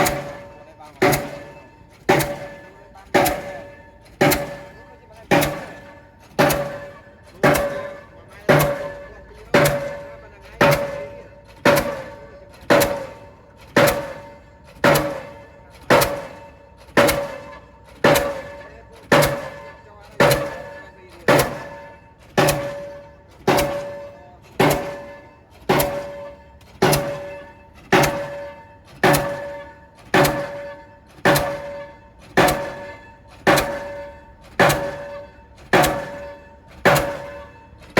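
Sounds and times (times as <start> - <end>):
metallic ringing: 0.0 - 37.9
pile hammer blows: 0.0 - 37.9.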